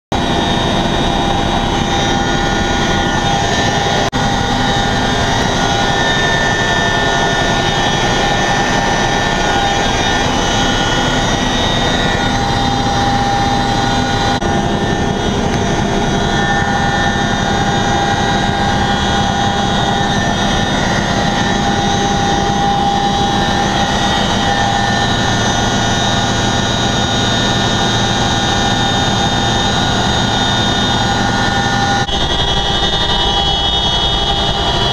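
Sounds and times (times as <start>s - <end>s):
helicopter engine and rotor noise: 0.1s - 34.9s.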